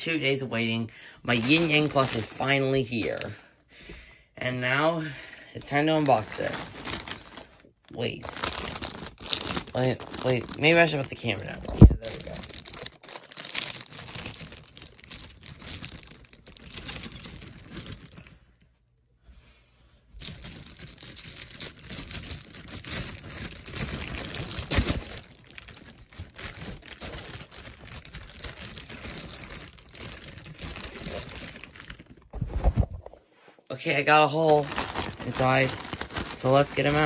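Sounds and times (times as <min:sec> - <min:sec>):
plastic bag crinkling and tearing: 0:00.0 - 0:03.4, 0:05.6 - 0:18.6, 0:20.1 - 0:33.2, 0:33.9 - 0:37.0.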